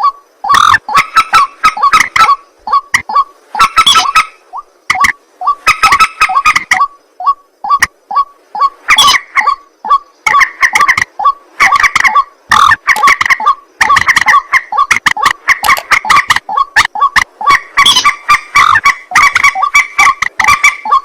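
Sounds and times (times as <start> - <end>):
rail birds croaking: 0.0 - 21.0.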